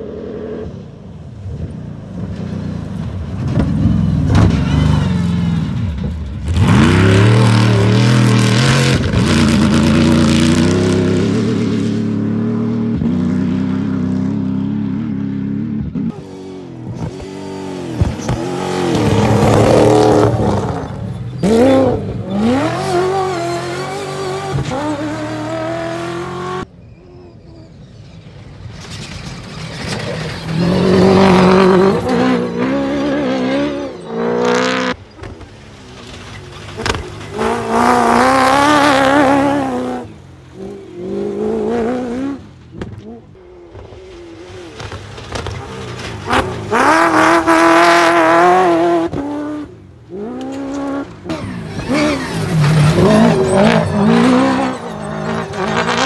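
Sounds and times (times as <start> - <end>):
rally trucks driving past: 0.0 - 56.0
engines revving hard: 6.4 - 26.7, 28.9 - 56.0.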